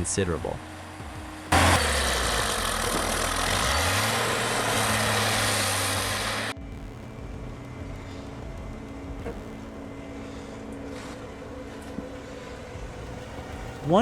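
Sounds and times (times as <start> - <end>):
snow groomer engine humming: 0.0 - 14.0.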